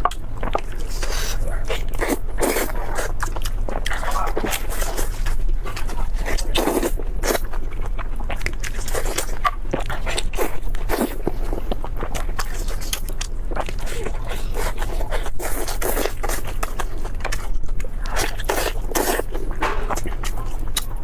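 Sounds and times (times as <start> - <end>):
crunchy bites and chewing: 0.0 - 21.0.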